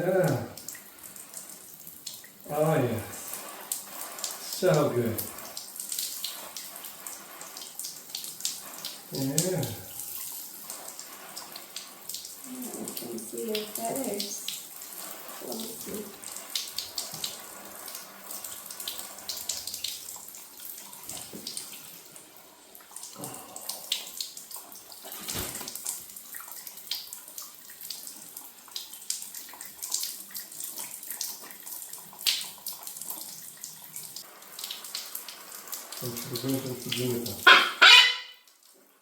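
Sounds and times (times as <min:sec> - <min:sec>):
shower water spattering: 0:00.0 - 0:38.8.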